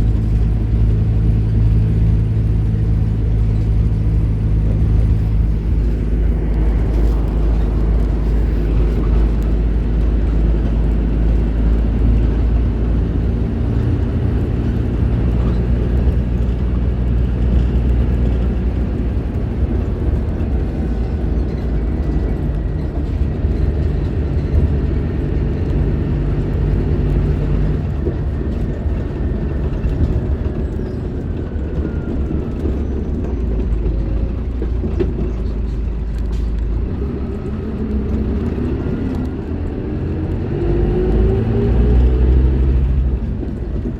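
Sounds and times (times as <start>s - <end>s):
bus diesel engine rumble: 0.0s - 43.9s.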